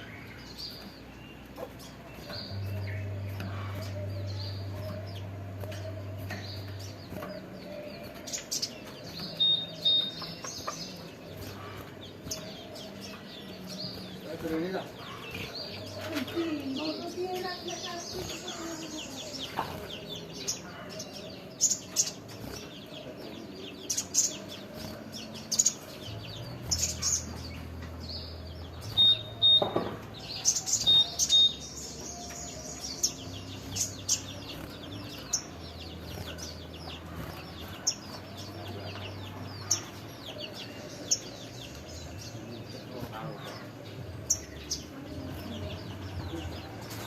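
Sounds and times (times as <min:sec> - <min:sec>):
songbird chirping and trilling: 0:00.0 - 0:47.0.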